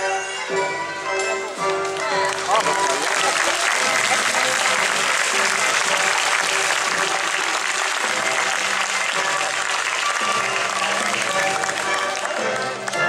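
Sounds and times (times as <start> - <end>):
crowd applauding: 1.3 - 13.0.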